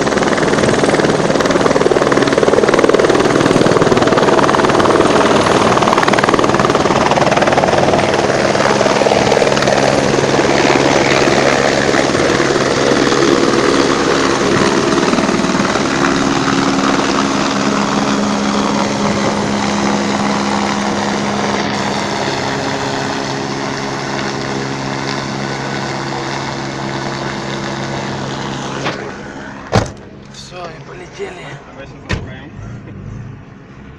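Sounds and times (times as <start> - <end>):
helicopter rotor noise: 0.0 - 33.6.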